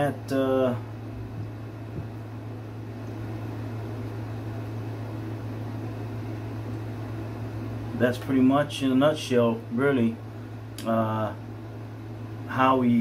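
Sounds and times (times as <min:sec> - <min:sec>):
fan hum and hiss: 0:00.0 - 0:13.0.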